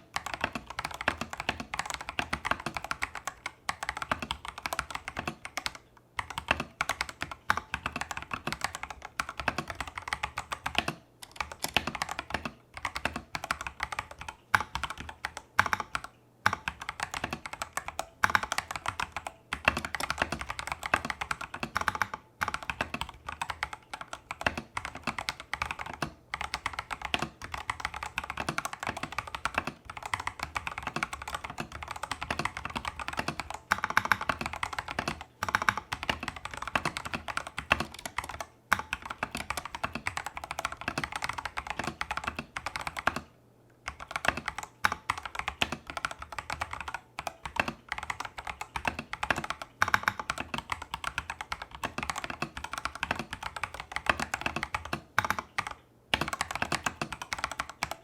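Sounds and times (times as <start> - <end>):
fast mechanical keyboard typing: 0.0 - 58.0.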